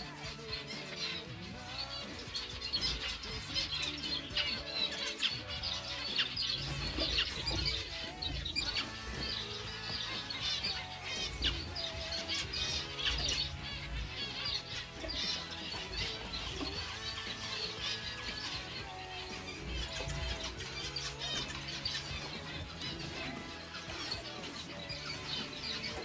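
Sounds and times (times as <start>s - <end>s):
background music: 0.0s - 26.0s
small birds chirping: 0.0s - 26.0s.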